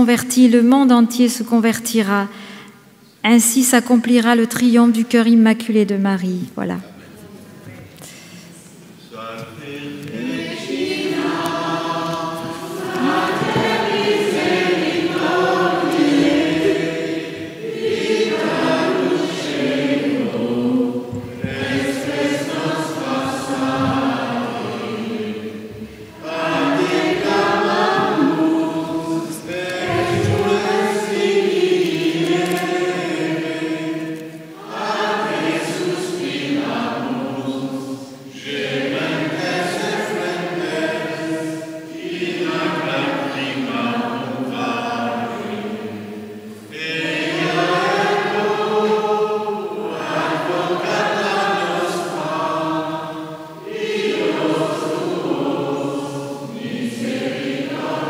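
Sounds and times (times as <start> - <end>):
choir singing a hymn: 0.0 - 2.2, 8.9 - 58.0.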